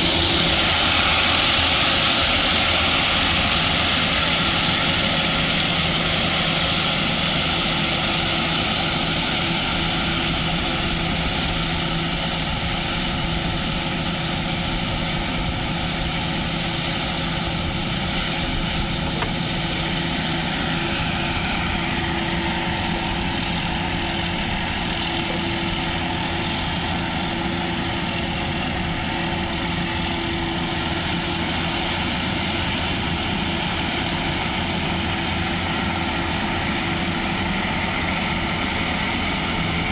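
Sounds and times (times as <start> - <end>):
harvester engine droning: 0.0 - 39.9.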